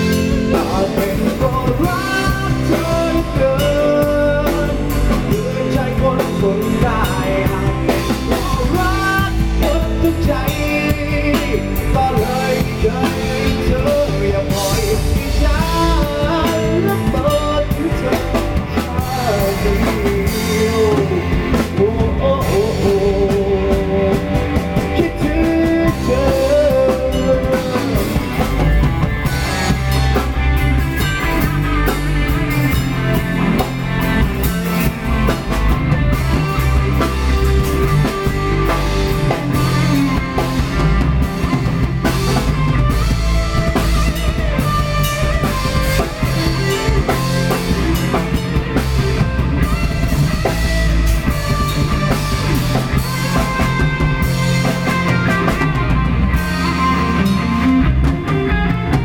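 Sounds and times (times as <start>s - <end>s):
pop-rock band music: 0.0s - 59.0s.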